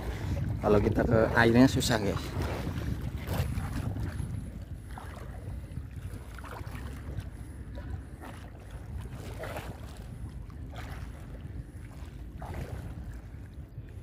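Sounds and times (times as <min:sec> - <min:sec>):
water swishing and splashing: 0:00.0 - 0:14.0
wind rumble on microphone: 0:00.0 - 0:14.0.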